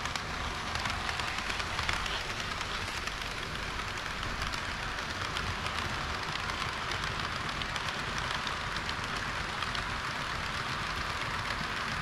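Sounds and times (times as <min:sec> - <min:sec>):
model train whirring: 0:00.0 - 0:12.0
wheels clicking on rails: 0:00.0 - 0:12.0.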